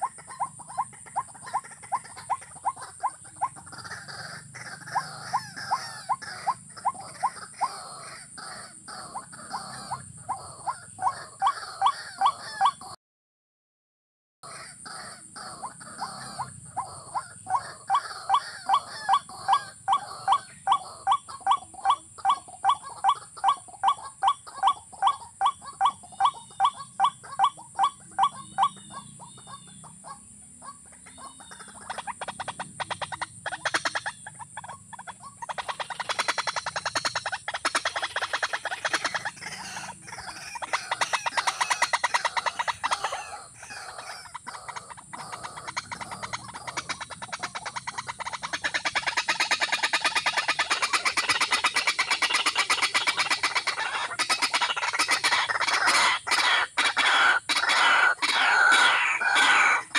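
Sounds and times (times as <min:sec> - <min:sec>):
rasping bird chatter: 0:00.0 - 0:13.0, 0:14.4 - 0:59.9
waterhens calling: 0:00.0 - 0:13.0, 0:14.4 - 0:59.9.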